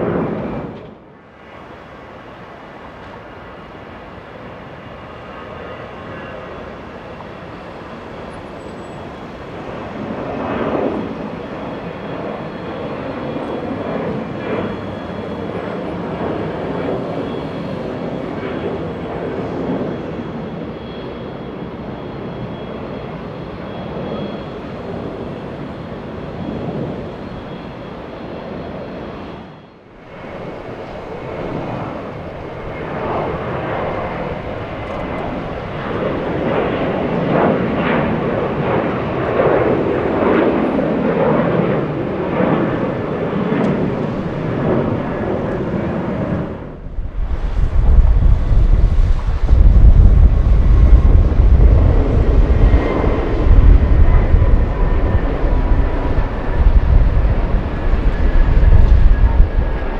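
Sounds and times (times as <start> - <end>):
faint high engine whine: 0.0 - 59.9
jet engines rushing: 0.0 - 59.9.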